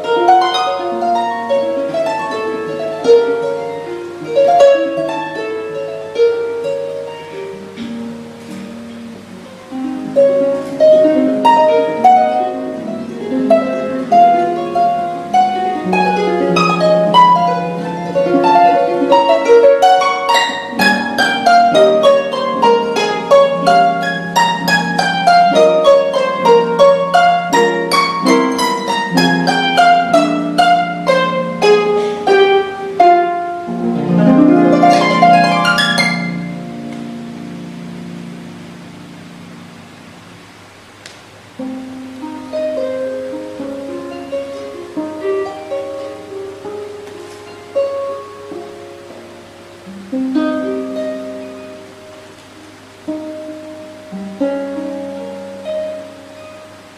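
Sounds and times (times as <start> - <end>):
harp plucked arpeggios: 0.0 - 40.4, 41.5 - 56.9.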